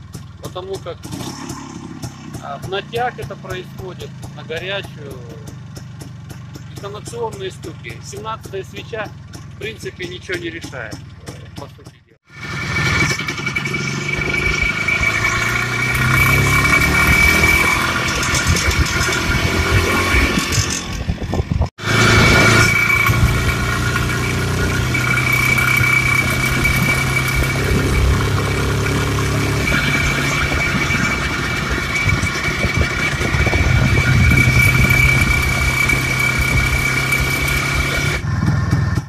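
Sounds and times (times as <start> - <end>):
two-stroke motorcycle engine running: 0.0 - 39.0.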